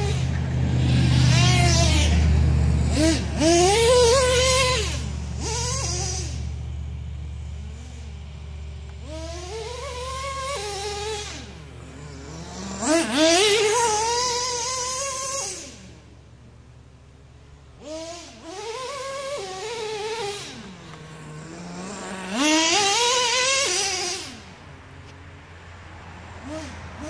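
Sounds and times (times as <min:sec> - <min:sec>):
model engine revving: 0:00.0 - 0:27.0.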